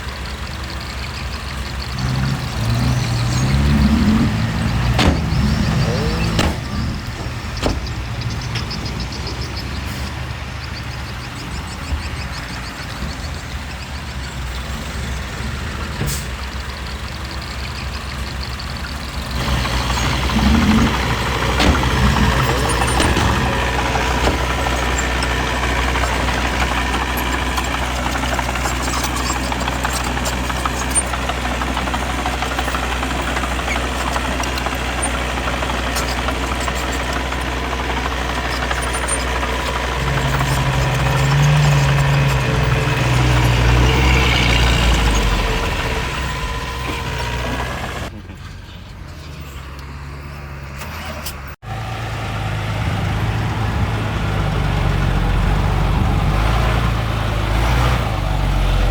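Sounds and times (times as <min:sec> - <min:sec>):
heavy diesel engines droning: 0:00.0 - 0:58.9.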